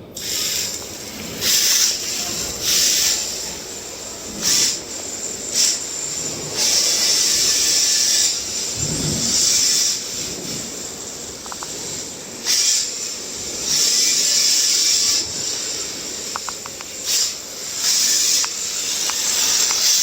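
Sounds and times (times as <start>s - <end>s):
rc car tyres hissing: 0.1s - 20.0s.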